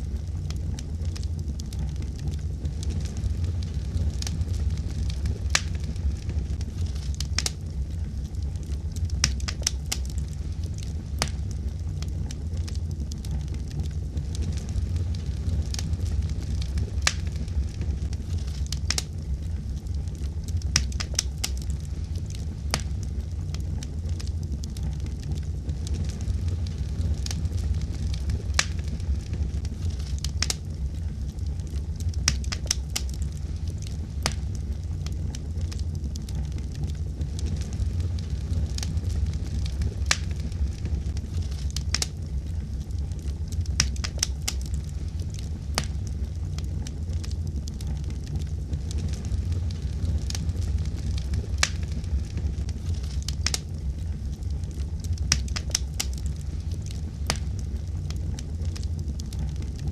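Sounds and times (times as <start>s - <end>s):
burning wood crackling and popping: 0.0s - 59.9s
rumble of fire flames: 0.0s - 59.9s.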